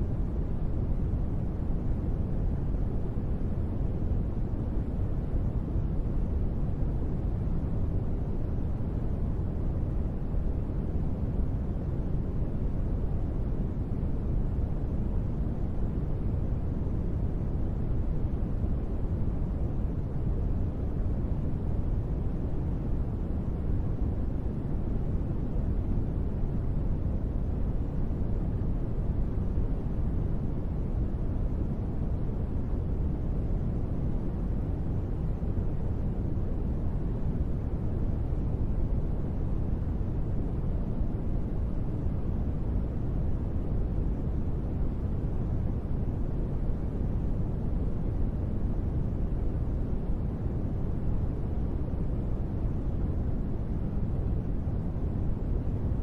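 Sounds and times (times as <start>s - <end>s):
deep steady white noise: 0.0s - 56.0s.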